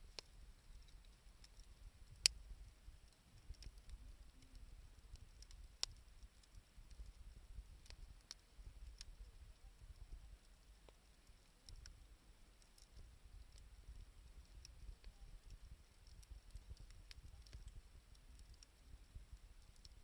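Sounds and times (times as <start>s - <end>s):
fire popping: 0.0s - 20.0s
wood fire crackling: 0.0s - 20.0s.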